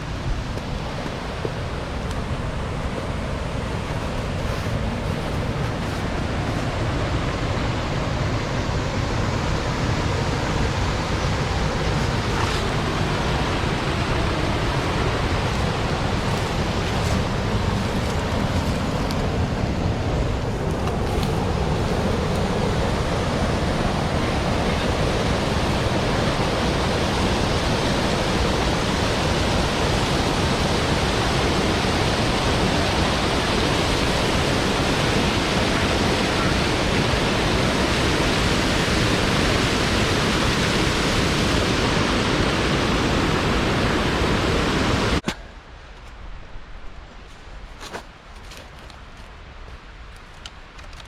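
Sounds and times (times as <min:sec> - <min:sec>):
water rushing over weir: 0:00.0 - 0:45.4.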